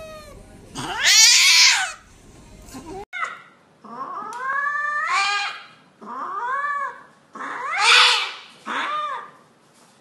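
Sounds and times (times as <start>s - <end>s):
cat yowling: 0.0s - 2.0s, 2.7s - 9.3s.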